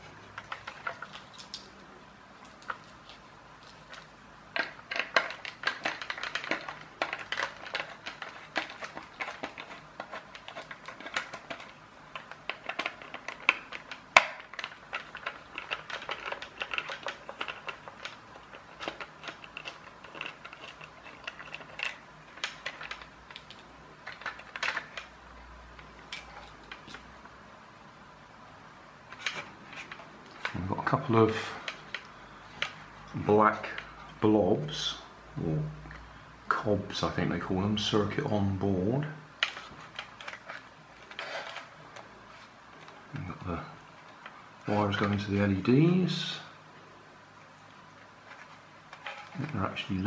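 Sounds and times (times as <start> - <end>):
plastic parts clicking and scraping: 0.0 - 27.3, 29.1 - 34.2, 39.3 - 45.4, 48.0 - 50.0.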